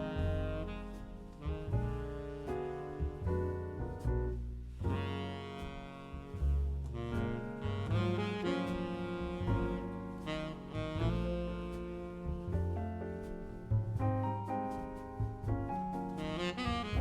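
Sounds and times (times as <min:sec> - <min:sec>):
instrumental jazz tune: 0:00.0 - 0:17.0.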